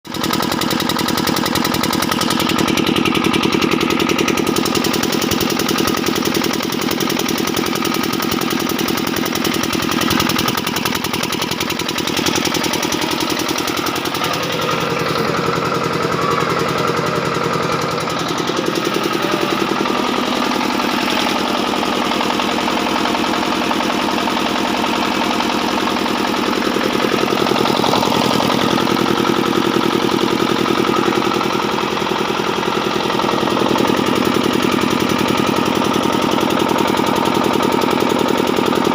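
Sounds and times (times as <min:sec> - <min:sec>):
generator engine knocking: 0:00.0 - 0:38.9.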